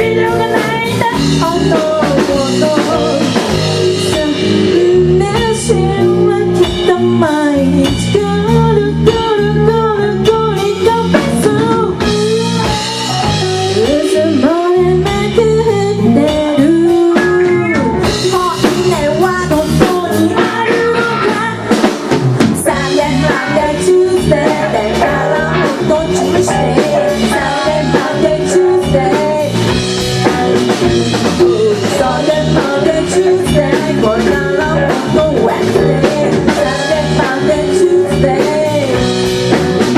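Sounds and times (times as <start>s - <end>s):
person singing: 0.0s - 21.8s, 22.6s - 29.8s, 31.2s - 39.2s
live rock band playing: 0.0s - 39.9s.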